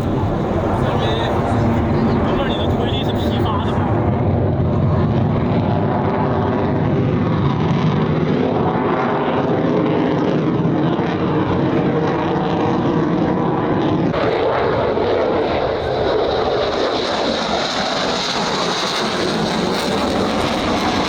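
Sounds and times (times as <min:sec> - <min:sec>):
aircraft flying overhead: 0:00.0 - 0:21.0.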